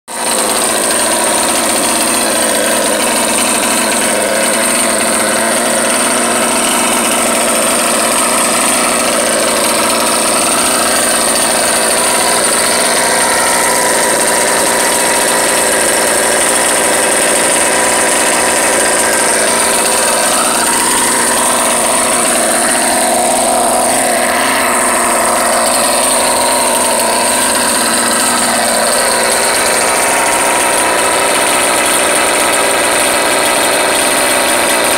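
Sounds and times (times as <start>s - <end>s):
two-stroke engine idling: 0.1s - 34.9s.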